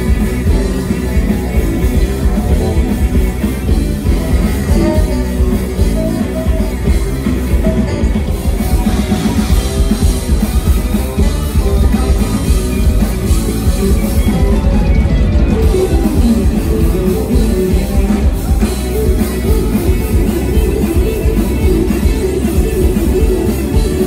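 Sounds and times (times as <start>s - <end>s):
drum kit beat: 0.0s - 24.0s
electric guitars: 0.0s - 24.0s
live rock band: 0.0s - 24.0s.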